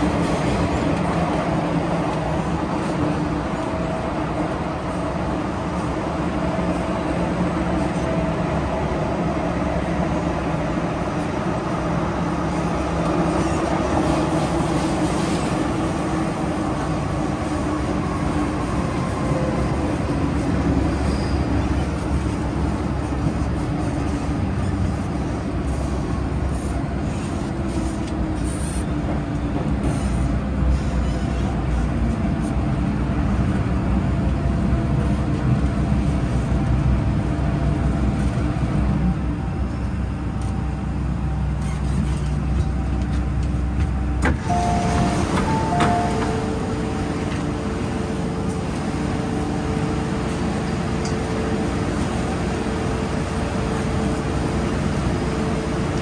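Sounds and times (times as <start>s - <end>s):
train motor humming: 0.0s - 56.0s
train wheels rumbling: 0.0s - 56.0s.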